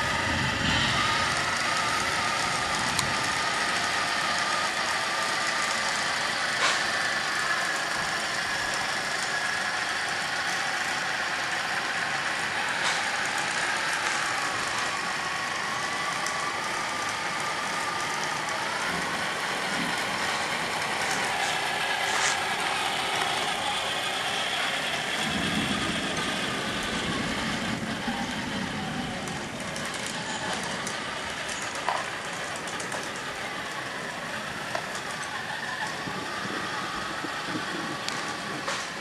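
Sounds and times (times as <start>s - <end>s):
toy tank engine whine: 0.0s - 39.0s.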